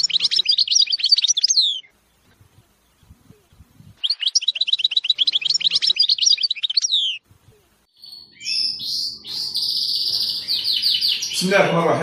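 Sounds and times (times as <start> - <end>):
finch singing: 0.0 - 12.0.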